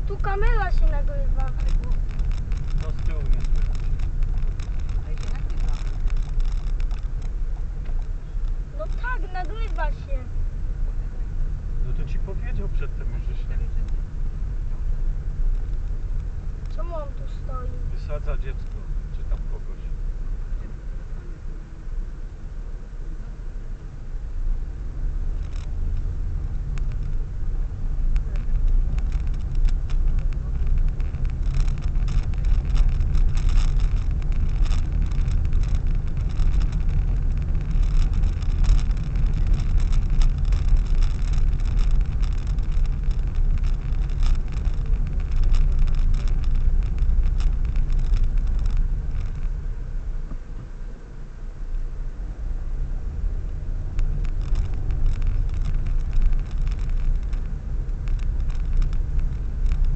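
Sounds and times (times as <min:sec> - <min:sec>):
car engine and tyre rumble: 0:00.0 - 0:59.9
faint ticks and rattles: 0:00.0 - 0:59.9.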